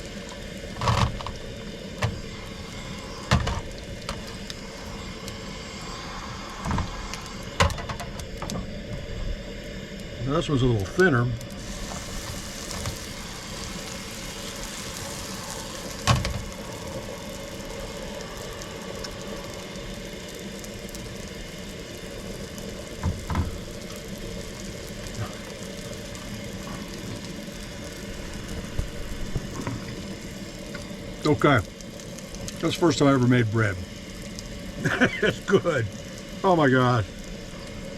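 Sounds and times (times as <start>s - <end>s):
dough sizzling in grease: 0.0s - 37.9s
low hum: 0.0s - 37.9s.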